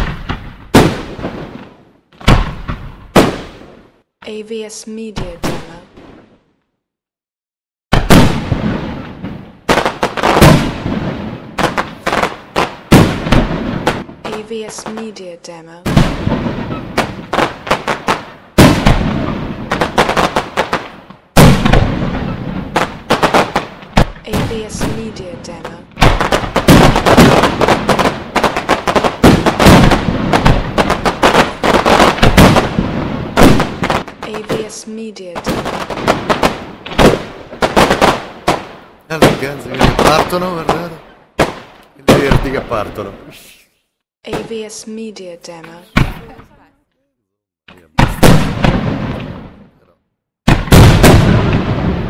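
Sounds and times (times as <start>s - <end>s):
fireworks bangs with rumbling echo: 0.0s - 4.1s, 5.0s - 6.5s, 7.9s - 15.2s, 15.8s - 43.3s, 44.3s - 46.7s, 47.8s - 52.0s.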